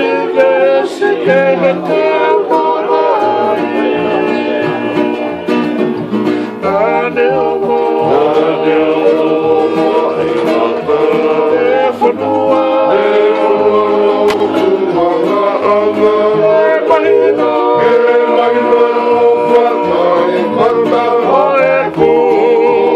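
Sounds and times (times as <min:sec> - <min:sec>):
men singing in harmony: 0:00.0 - 0:05.9, 0:06.5 - 0:22.9
acoustic guitars: 0:00.0 - 0:22.9
ukulele: 0:00.0 - 0:22.9.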